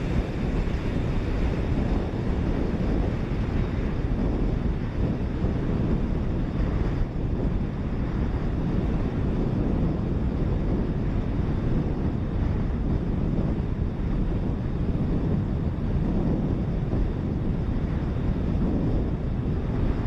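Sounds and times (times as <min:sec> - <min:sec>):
jet engine rumble: 0:00.0 - 0:20.0
rolling and rushing noise: 0:00.0 - 0:20.0.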